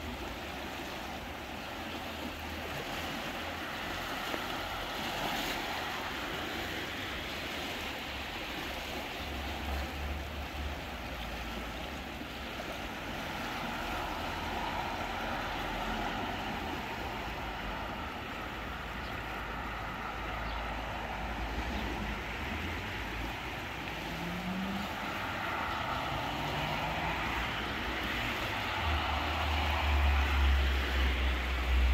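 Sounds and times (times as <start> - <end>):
river rushing: 0.0 - 31.9.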